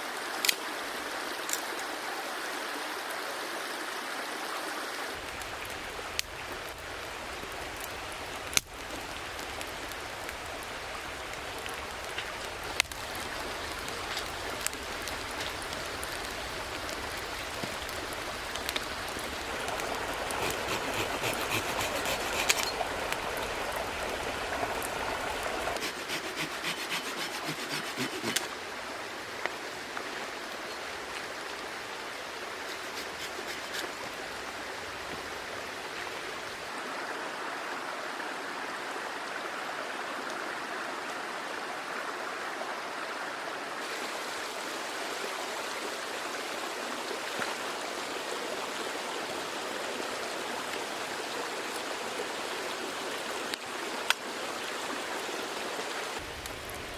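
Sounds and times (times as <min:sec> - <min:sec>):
stream running over stones: 0:00.0 - 0:56.9.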